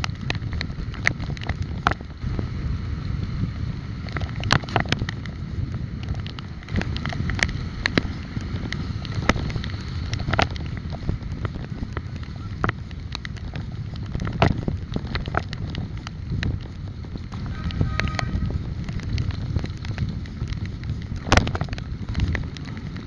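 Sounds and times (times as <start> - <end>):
sharp clicks and knocks: 0.0 - 2.1, 4.0 - 5.4, 6.0 - 23.0
wind buffeting microphone: 0.0 - 23.0.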